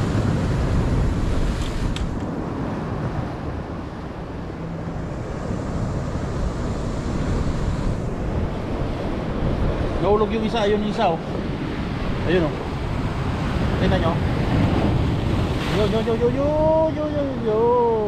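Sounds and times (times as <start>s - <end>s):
ocean surf washing on beach: 0.0s - 18.0s
wind buffeting microphone: 0.0s - 18.0s.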